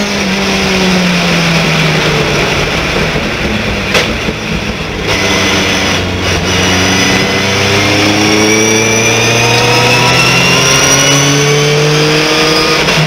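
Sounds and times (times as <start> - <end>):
truck engine accelerating hard: 0.0 - 13.0.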